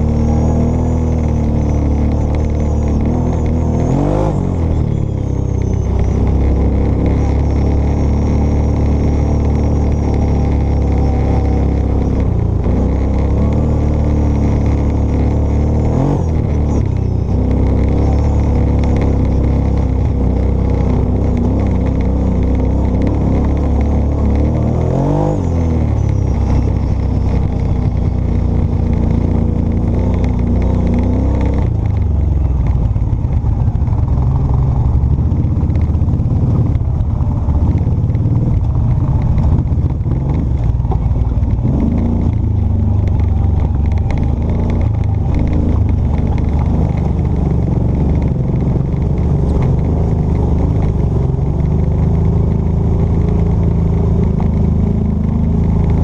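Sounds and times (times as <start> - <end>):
engine revving: 0.0 - 56.0
quad engine running: 0.0 - 56.0.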